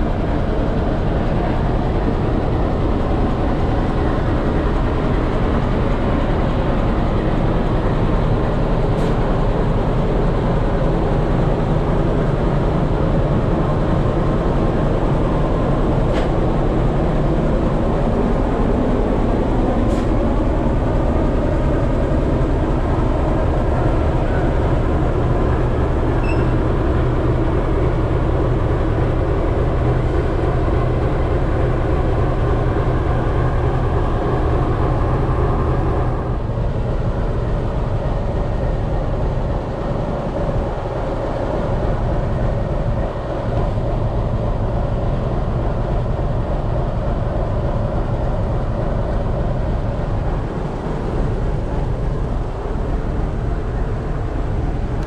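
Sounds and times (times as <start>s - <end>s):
locomotive engine droning: 0.0s - 55.0s.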